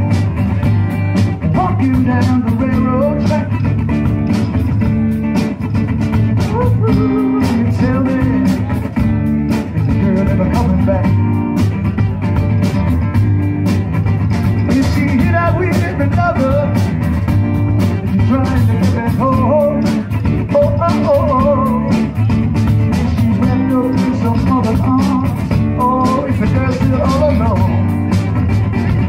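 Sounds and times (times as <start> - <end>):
drum kit beat: 0.0 - 29.0
electric guitar: 0.0 - 29.0
live band through speakers: 0.0 - 29.0.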